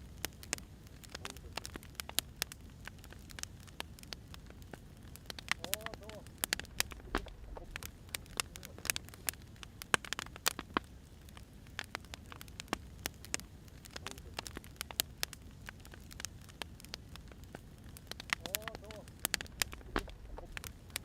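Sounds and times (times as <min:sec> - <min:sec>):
firewood popping and snapping: 0:00.0 - 0:21.0
low rumble of flames: 0:00.0 - 0:21.0.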